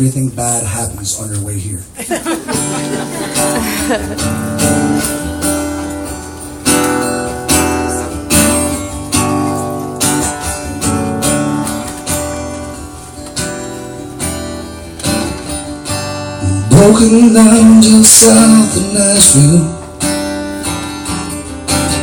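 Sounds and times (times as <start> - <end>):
acoustic guitar strummed chords: 2.2 - 22.0.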